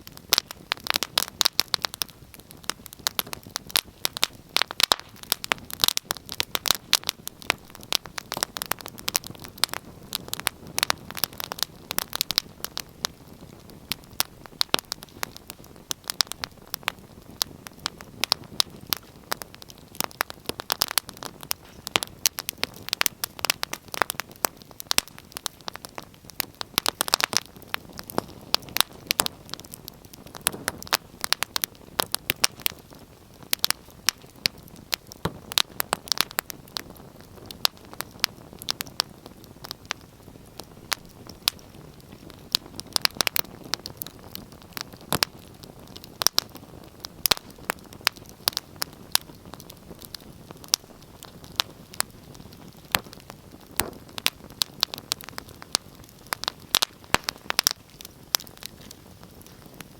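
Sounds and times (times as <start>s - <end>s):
low rush of flame: 0.0s - 59.9s
wood fire crackling: 0.0s - 59.9s.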